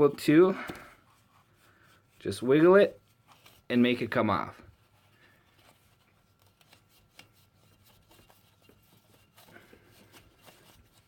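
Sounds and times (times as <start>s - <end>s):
rope rubbing: 1.0s - 11.0s.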